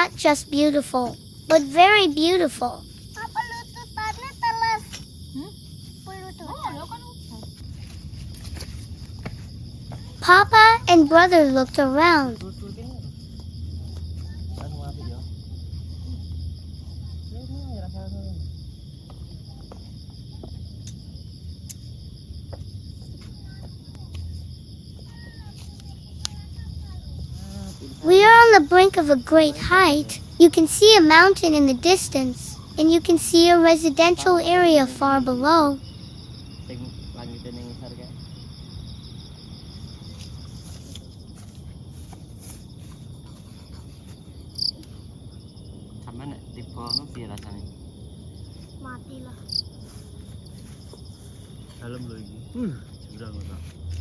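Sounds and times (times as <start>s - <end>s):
insects droning: 0.0s - 54.0s
low open air hum: 0.0s - 54.0s.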